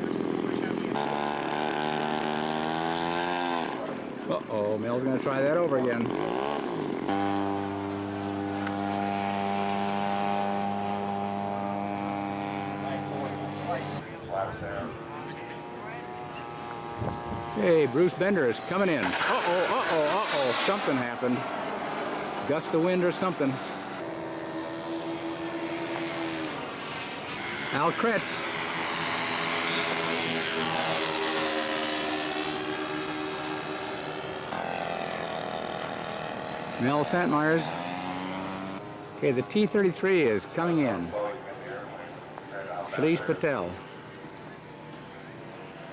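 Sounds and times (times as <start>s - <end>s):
model airplane engine running: 0.0s - 45.9s.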